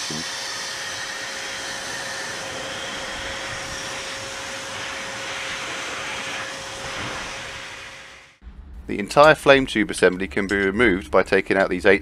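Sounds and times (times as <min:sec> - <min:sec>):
jet engine rushing and whining: 0:00.0 - 0:12.0.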